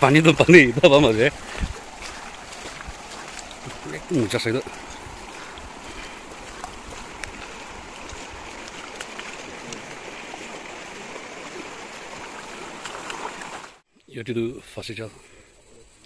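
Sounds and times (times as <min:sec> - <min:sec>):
river flowing over stones: 0:00.0 - 0:13.8.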